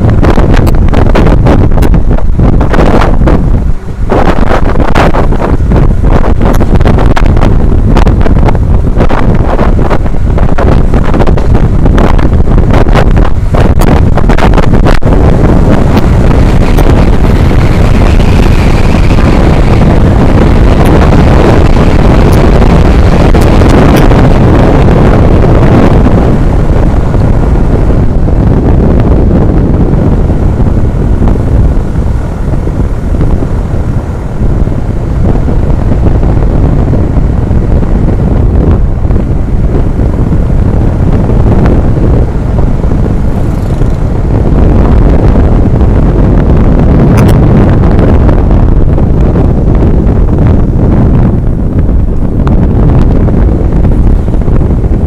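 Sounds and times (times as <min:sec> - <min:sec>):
road and engine rumble: 0:00.0 - 0:55.0
wind buffeting microphone: 0:00.0 - 0:55.0.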